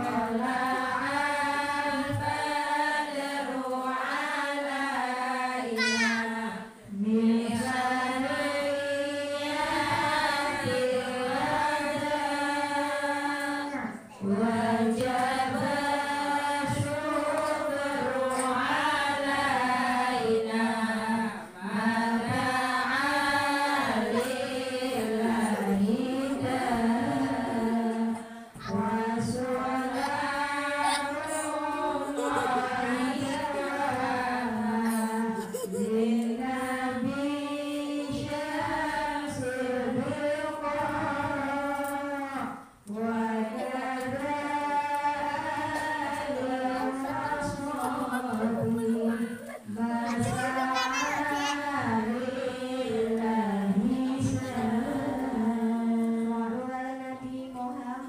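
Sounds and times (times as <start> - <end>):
women chanting in unison: 0.0 - 58.0.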